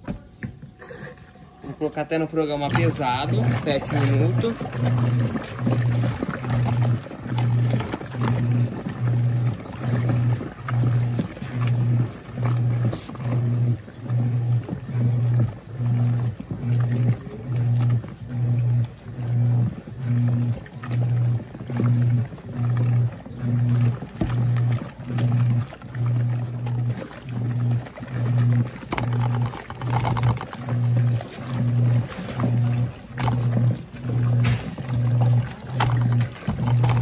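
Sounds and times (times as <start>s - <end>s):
washing machine motor hum: 0.0s - 37.0s
water and cloths sloshing: 0.7s - 37.0s.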